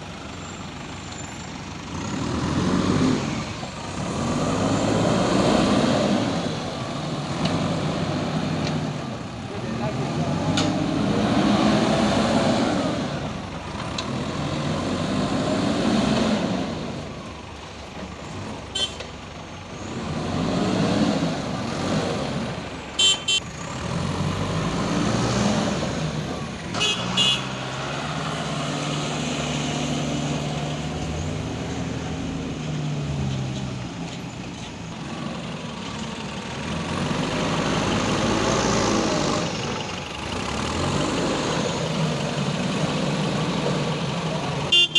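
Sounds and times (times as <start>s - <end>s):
backhoe diesel engine revving: 0.0s - 44.9s.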